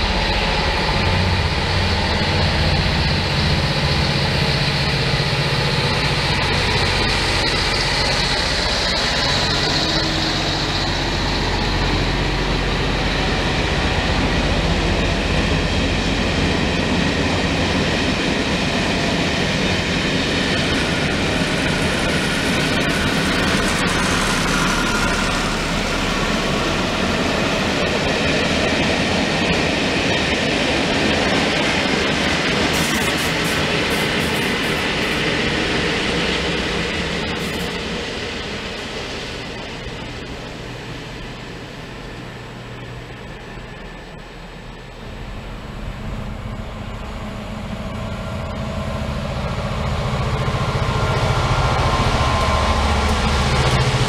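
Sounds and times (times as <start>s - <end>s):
train wheels clattering over rails: 0.0s - 44.4s, 46.0s - 54.0s
diesel locomotive approaching: 0.0s - 54.0s
diesel locomotive passing: 0.0s - 54.0s.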